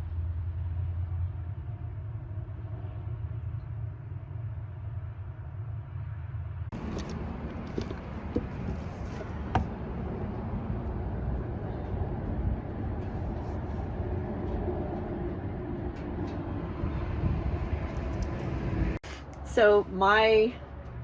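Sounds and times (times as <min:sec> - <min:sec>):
road and engine rumble: 0:00.0 - 0:21.0.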